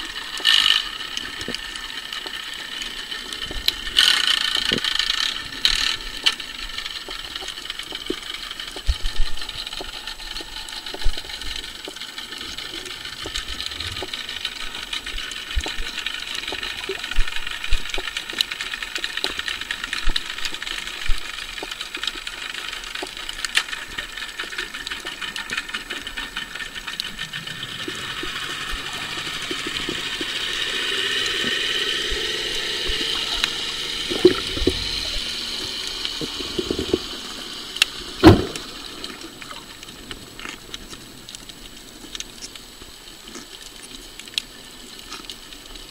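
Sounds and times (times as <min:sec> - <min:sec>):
sharp underwater clicks: 0:00.0 - 0:45.9
steady underwater whirring hiss: 0:00.0 - 0:45.9.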